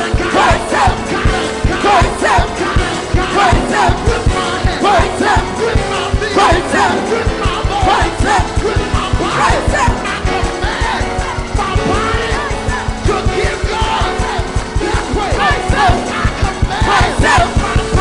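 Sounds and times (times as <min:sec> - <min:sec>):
drum beat: 0:00.0 - 0:18.0
gospel band playing: 0:00.0 - 0:18.0
voices shouting and singing: 0:00.0 - 0:18.0.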